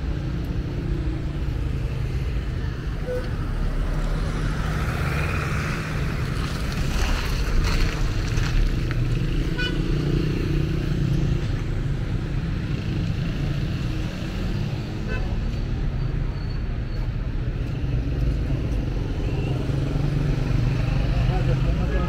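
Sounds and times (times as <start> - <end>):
street traffic rumble: 0.0 - 22.0.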